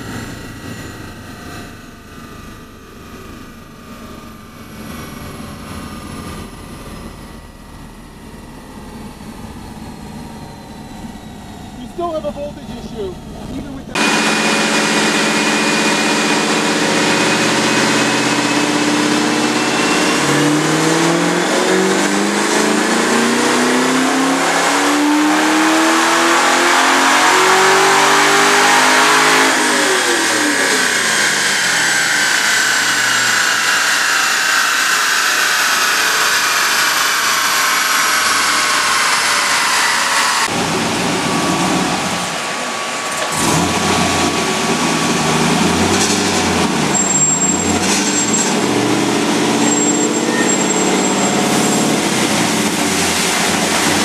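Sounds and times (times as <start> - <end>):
car engine revving on a dyno: 0.0 - 54.0
dyno rollers whining: 0.0 - 54.0.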